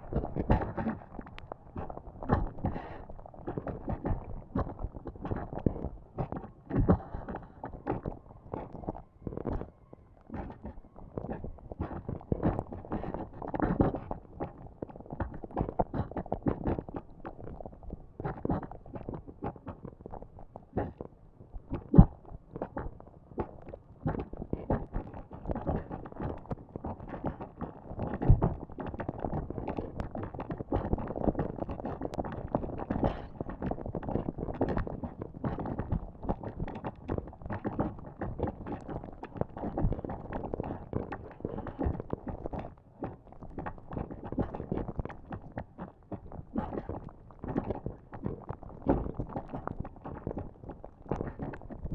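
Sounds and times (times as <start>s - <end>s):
molten lava bubbling and popping: 0.0s - 51.9s.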